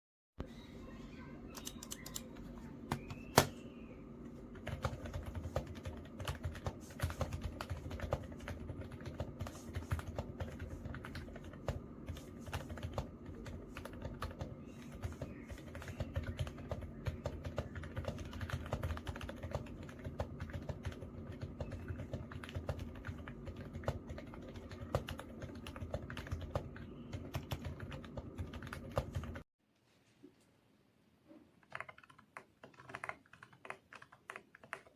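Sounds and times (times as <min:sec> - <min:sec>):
faint low hum: 0:00.4 - 0:34.9
mechanical keyboard typing: 0:01.5 - 0:02.3, 0:04.6 - 0:29.4, 0:31.6 - 0:34.9.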